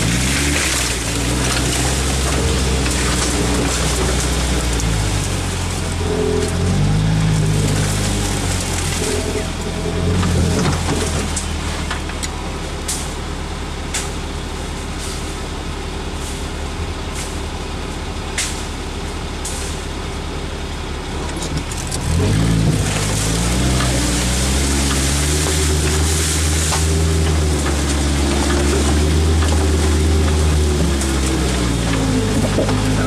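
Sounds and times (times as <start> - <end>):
branches scraping vehicle body: 0.0 - 20.0, 21.1 - 33.0
off-road vehicle engine: 0.0 - 33.0.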